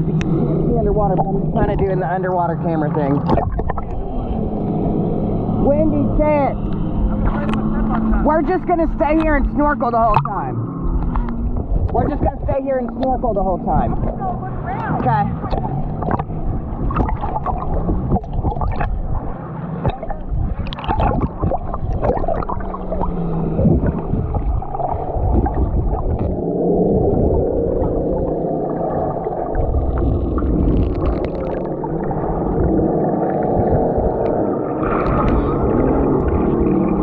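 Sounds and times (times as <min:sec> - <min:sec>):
underwater water rushing: 0:00.0 - 0:37.0
water splashes: 0:00.0 - 0:37.0.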